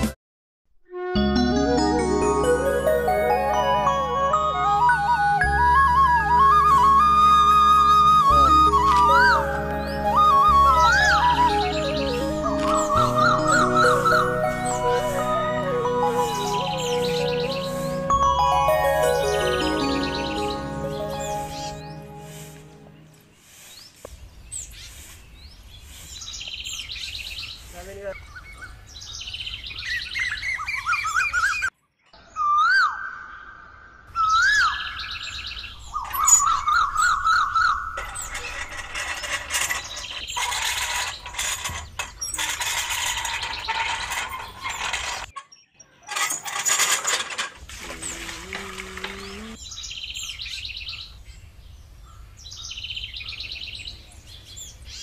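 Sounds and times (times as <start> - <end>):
birds chirping and whistling: 2.2 - 47.2, 47.8 - 55.0.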